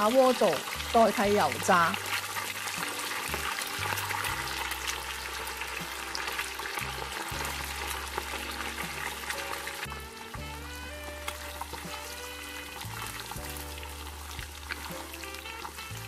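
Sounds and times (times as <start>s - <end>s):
oil sizzling and crackling: 0.0s - 16.0s.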